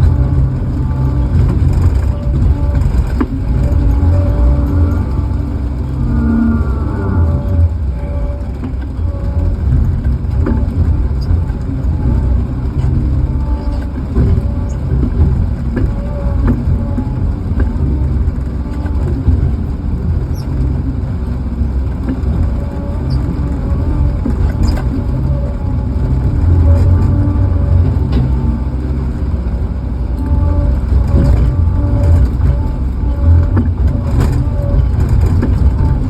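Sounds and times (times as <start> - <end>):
heavy equipment engine rumbling: 0.0 - 36.0.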